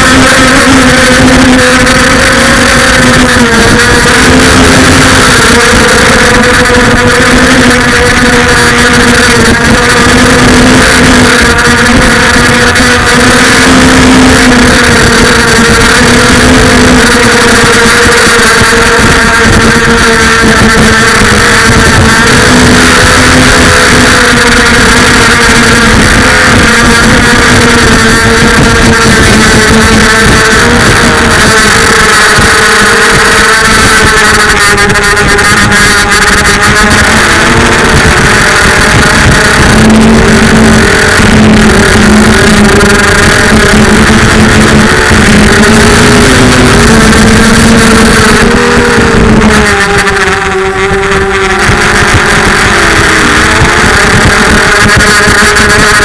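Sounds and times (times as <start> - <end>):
drone motors whining: 0.0 - 56.0
rushing wind: 0.0 - 56.0.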